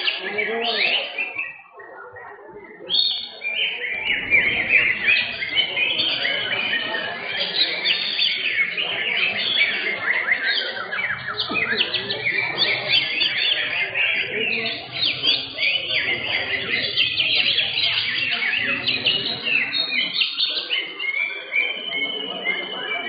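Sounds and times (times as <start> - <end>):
songbirds chirping and whistling: 0.0 - 23.0.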